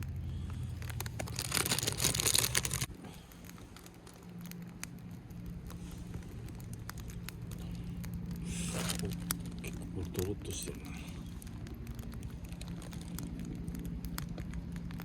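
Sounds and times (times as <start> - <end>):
plastic packet crinkling: 0.0 - 15.0.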